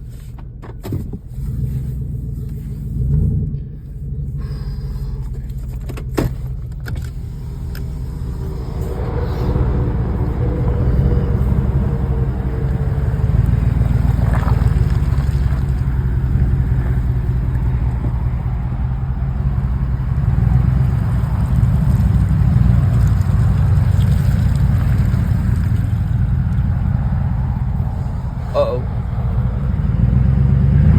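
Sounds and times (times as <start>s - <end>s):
truck engine under load: 0.0s - 30.9s.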